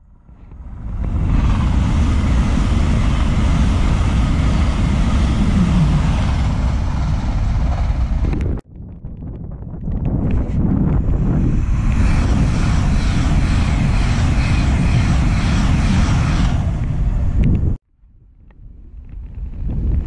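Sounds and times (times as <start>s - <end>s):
train passing at speed: 0.0s - 8.6s, 10.4s - 17.8s.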